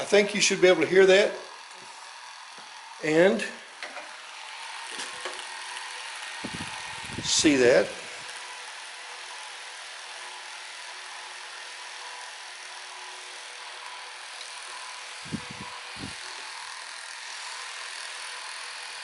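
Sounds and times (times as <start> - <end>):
small fan whirring: 0.0 - 12.7, 13.3 - 19.0.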